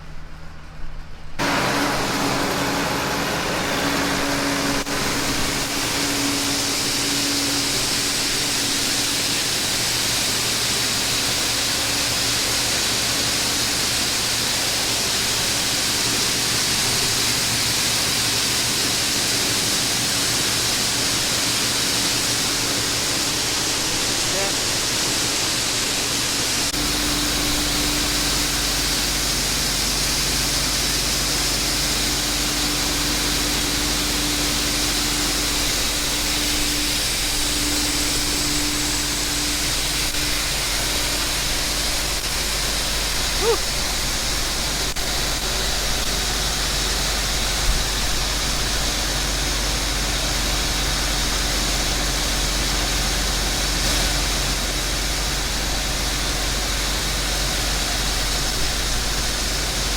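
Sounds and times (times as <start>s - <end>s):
tractor engine low hum: 0.0s - 59.9s
auger whine: 1.4s - 59.9s.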